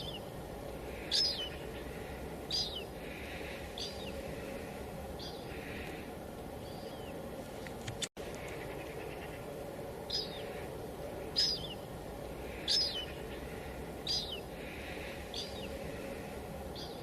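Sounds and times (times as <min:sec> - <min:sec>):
bird calling: 0:00.0 - 0:07.3, 0:07.9 - 0:17.0.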